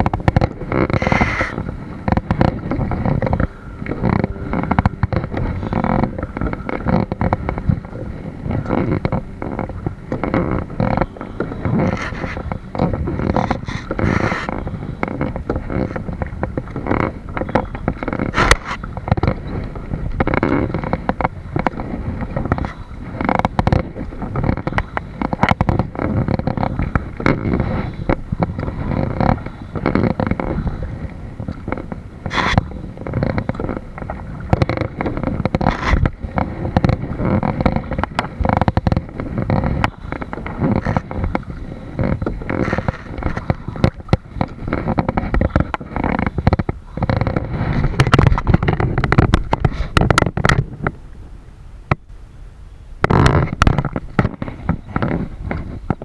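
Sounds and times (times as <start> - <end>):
small knocks and clicks: 0.0 - 51.0, 53.0 - 56.0
water sounds from kayak: 0.0 - 56.0
wind buffeting microphone: 0.0 - 56.0.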